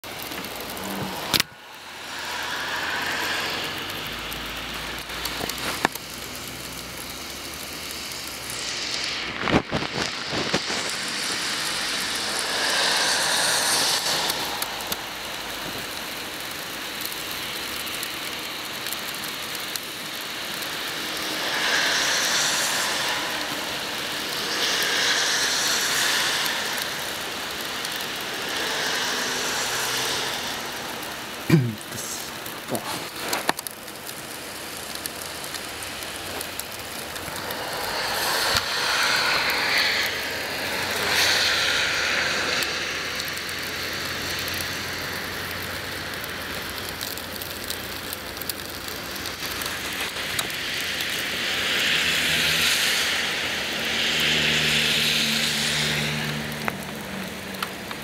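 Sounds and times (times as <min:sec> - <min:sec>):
cars passing: 0:00.0 - 0:07.0, 0:10.2 - 0:16.6, 0:20.0 - 0:33.6, 0:35.1 - 0:47.1, 0:50.1 - 0:58.0
traffic on wet roads: 0:00.0 - 0:58.0.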